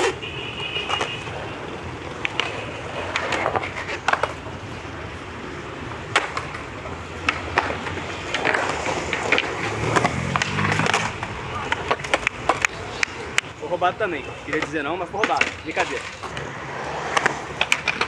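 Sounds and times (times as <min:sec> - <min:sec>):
skateboard wheels rolling on concrete: 0:00.0 - 0:18.0
skateboard clacks: 0:00.8 - 0:13.6, 0:14.2 - 0:18.0.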